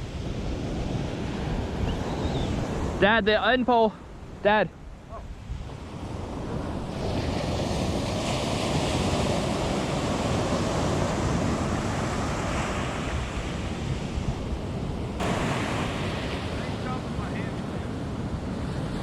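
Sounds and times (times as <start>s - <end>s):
wind buffeting microphone: 0.0s - 3.0s, 4.0s - 19.0s
ocean surf washing onto beach: 0.0s - 19.0s.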